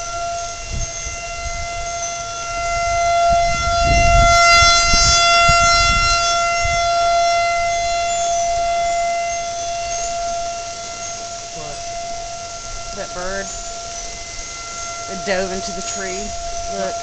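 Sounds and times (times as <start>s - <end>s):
low rumbling noise: 0.0s - 17.0s
warning siren steady tone: 0.0s - 17.0s.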